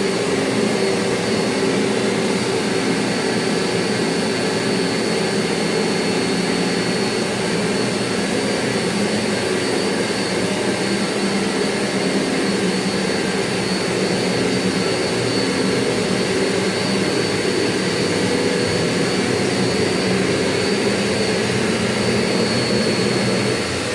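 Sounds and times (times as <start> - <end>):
machinery drone with high whine: 0.0 - 23.9.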